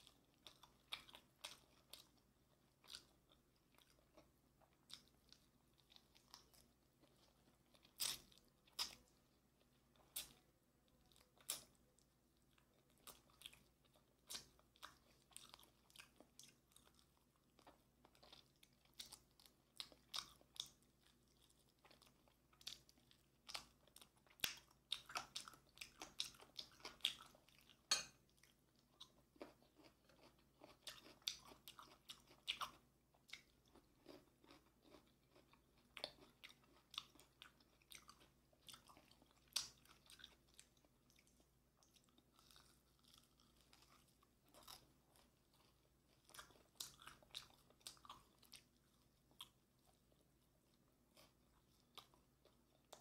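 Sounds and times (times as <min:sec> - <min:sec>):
chewing crispy fried chicken: 0:00.0 - 0:53.0.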